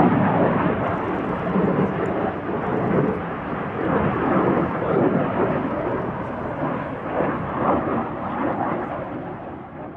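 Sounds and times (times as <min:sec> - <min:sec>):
jet engine rumbling rush: 0:00.0 - 0:09.9.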